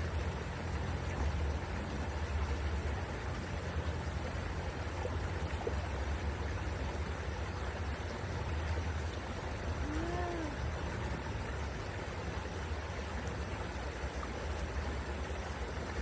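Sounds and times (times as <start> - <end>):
water rushing with low rumble: 0.0 - 16.0.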